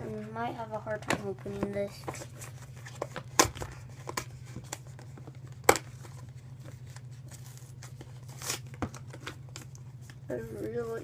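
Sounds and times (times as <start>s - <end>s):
steady low hum: 0.0s - 11.0s
faint packaging crinkling: 1.9s - 11.0s.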